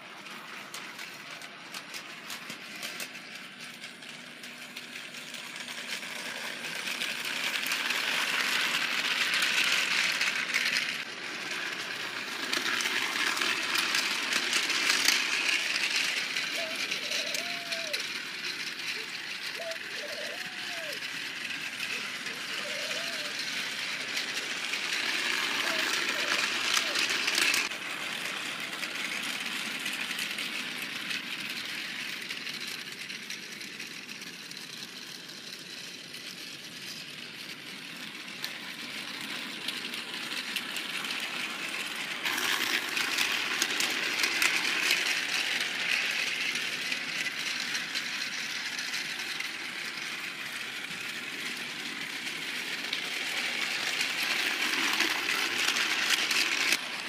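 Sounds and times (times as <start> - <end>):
toy train motor whirring: 0.0 - 57.0
wheels clicking on plastic track: 0.0 - 57.0.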